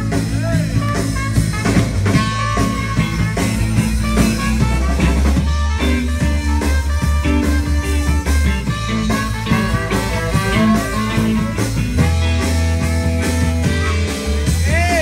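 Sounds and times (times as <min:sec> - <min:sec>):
drums steady beat: 0:00.0 - 0:15.0
rock band playing: 0:00.0 - 0:15.0.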